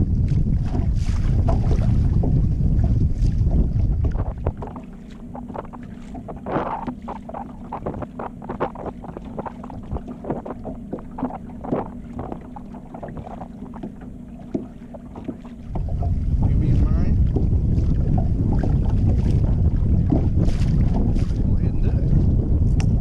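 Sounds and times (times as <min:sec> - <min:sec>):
boat motor hum: 0:00.0 - 0:23.0
wind buffeting microphone: 0:00.0 - 0:23.0.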